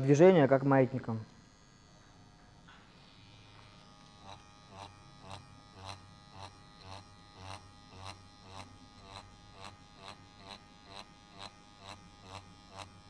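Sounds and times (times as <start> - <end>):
tattoo machine buzzing: 0.0 - 13.0.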